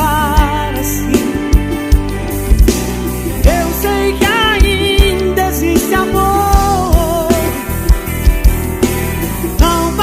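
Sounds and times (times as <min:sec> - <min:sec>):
melody with gliding notes: 0:00.0 - 0:10.0
steady drum beat: 0:00.0 - 0:10.0.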